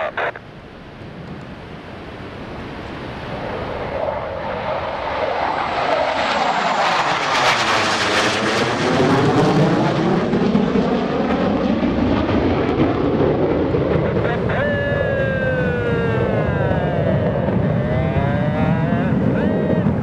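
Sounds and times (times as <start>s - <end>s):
jet fighters roaring overhead: 0.0s - 20.0s.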